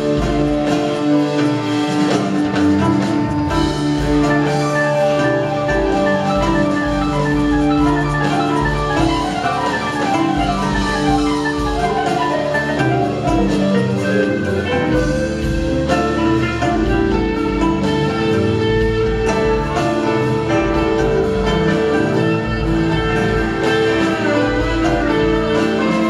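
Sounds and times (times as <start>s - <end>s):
drum kit: 0.0s - 26.0s
keyboards playing fast runs: 0.0s - 26.0s.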